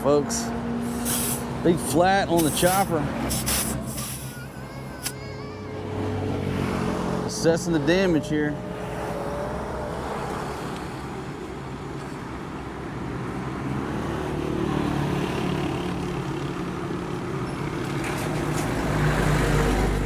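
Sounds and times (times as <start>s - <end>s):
street traffic: 0.0s - 20.0s
vehicle engine running nearby: 0.0s - 20.0s.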